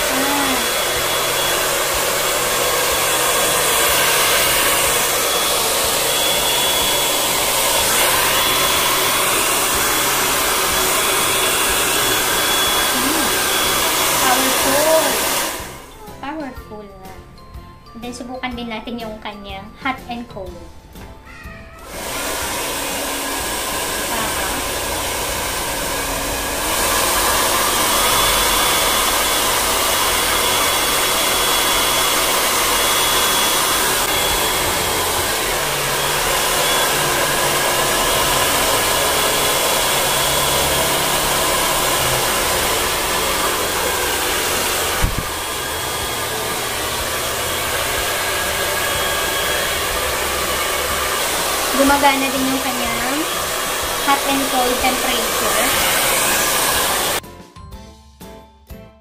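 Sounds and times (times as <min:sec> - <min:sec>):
hair dryer blowing: 0:00.0 - 0:16.5, 0:21.8 - 0:57.2.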